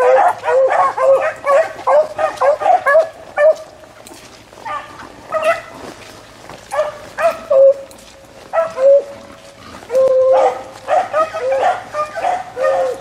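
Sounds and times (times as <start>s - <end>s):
dogs baying: 0.0s - 13.0s.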